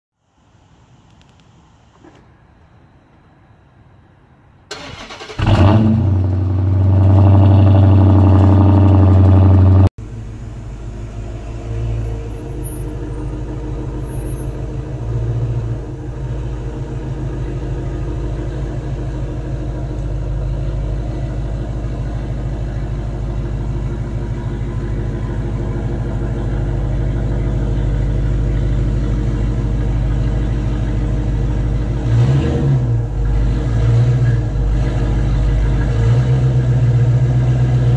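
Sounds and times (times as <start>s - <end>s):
car engine low rumble: 0.4s - 37.9s
car engine high revving: 4.7s - 9.9s, 11.2s - 37.9s.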